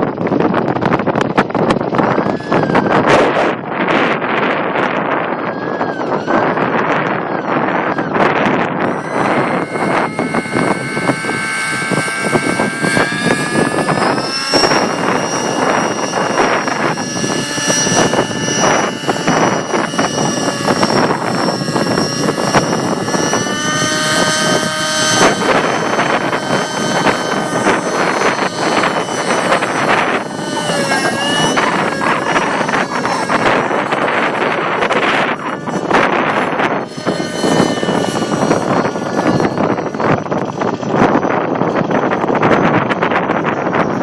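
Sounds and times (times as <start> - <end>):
model helicopter buzzing: 0.0 - 44.0
wind over microphone: 0.0 - 44.0.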